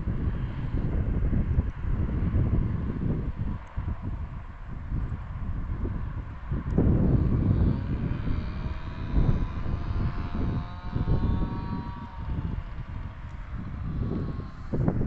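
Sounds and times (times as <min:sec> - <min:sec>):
passing engine whine: 0:00.0 - 0:15.0
wind rumble on microphone: 0:00.0 - 0:15.0.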